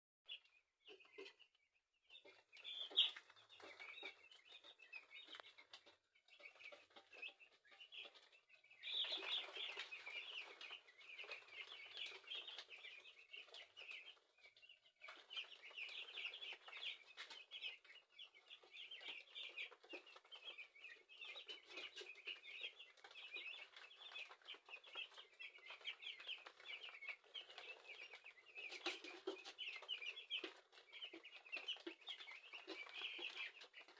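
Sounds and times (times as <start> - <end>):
chicks peeping: 0.3 - 33.9.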